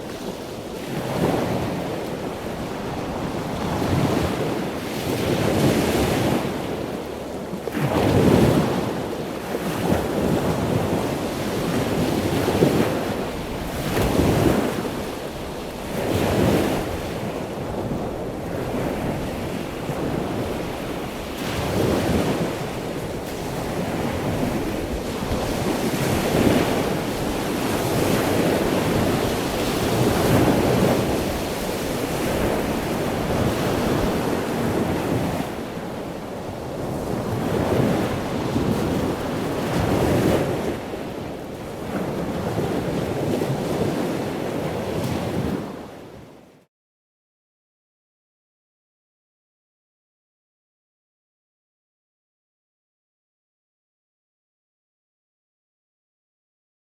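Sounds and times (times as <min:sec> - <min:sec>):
small waves breaking on beach: 0:00.0 - 0:46.5.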